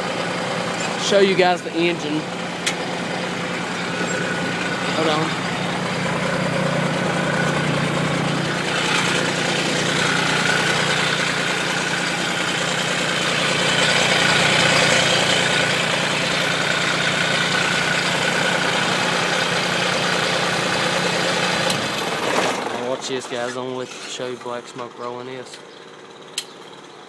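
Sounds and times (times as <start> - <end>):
mower diesel engine running: 0.0 - 27.0.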